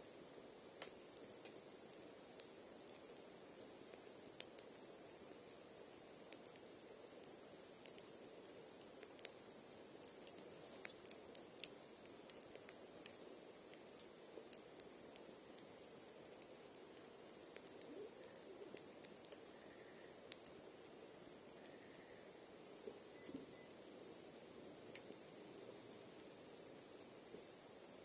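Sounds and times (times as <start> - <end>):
campfire pops and snaps: 0.0 - 19.6, 20.2 - 23.8, 24.8 - 25.9
soft steady fire rush: 0.0 - 28.0.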